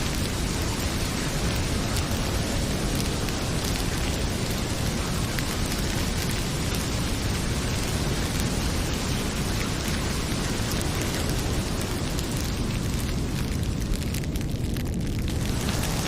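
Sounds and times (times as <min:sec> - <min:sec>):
fireplace crackling: 0:00.0 - 0:16.0
heavy rain pouring: 0:00.0 - 0:16.0.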